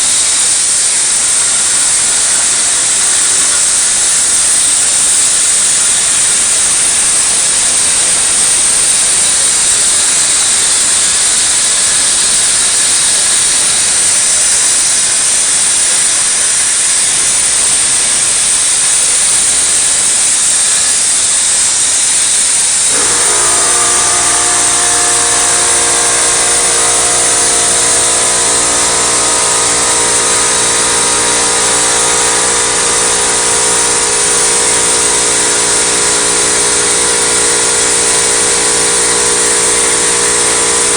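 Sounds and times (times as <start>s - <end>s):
machine whine: 0.0s - 40.9s
plasma cutter torch hissing: 0.0s - 40.9s.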